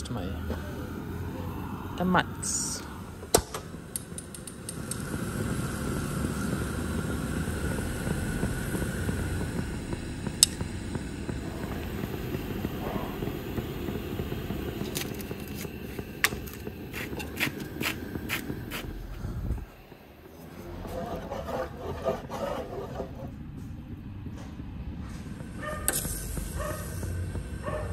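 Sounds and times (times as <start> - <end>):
camp stove burner hissing: 0.0 - 20.8, 25.4 - 27.9.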